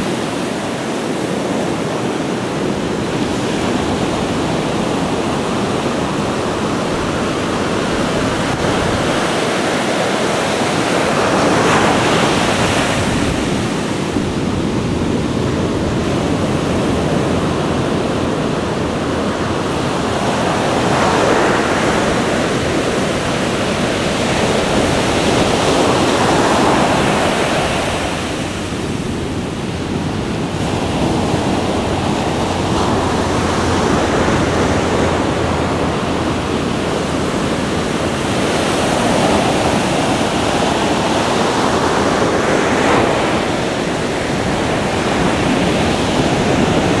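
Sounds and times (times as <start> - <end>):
ocean surf washing on beach: 0.0 - 47.0.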